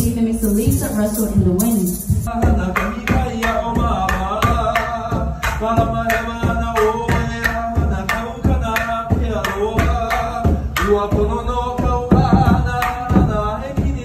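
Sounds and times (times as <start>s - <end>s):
hand drum beat: 0.0s - 14.0s.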